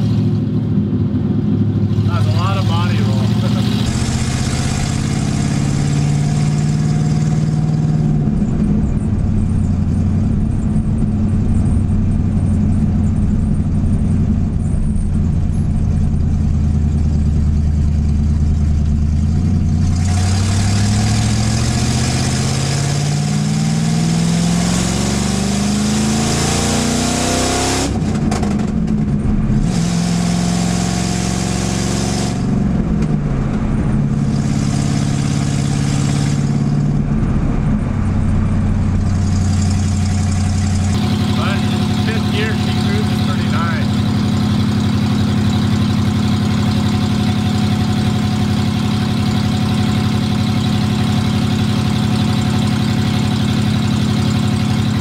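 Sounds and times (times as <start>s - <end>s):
car engine revving: 0.0s - 55.0s
wind and road noise: 0.0s - 55.0s.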